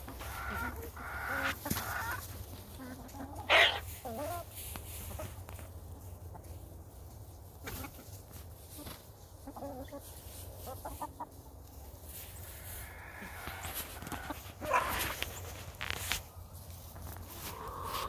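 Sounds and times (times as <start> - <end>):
hens clucking: 0.0 - 18.0
pecking and scratching in straw: 0.0 - 18.0
rustle: 0.0 - 18.0.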